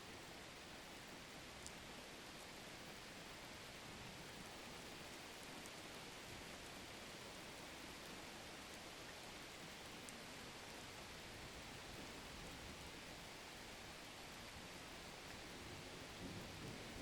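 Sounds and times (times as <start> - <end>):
faint steady rain: 0.0 - 17.0.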